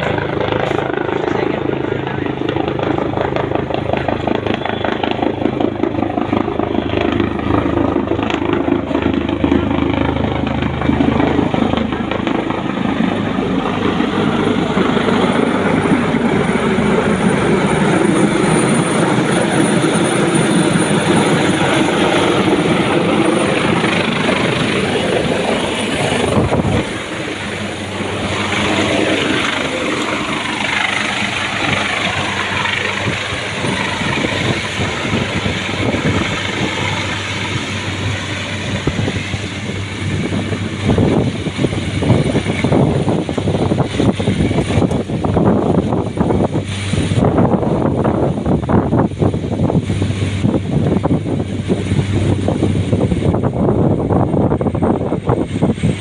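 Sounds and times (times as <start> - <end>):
helicopter rotor and engine noise: 0.0 - 56.0.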